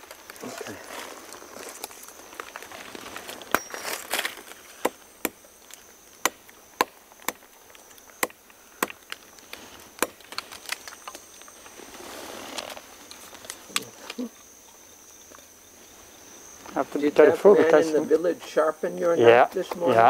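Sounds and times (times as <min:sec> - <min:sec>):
high insect buzz: 0:00.0 - 0:20.0.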